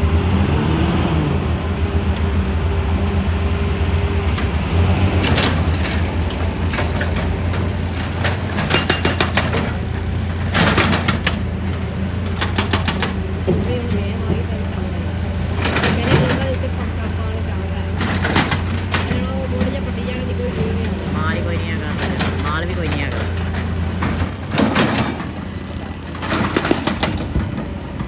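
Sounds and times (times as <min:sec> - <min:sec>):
excavator diesel engine running: 0:00.0 - 0:28.0
rapid knocking and clatter: 0:04.3 - 0:25.6, 0:26.2 - 0:28.0.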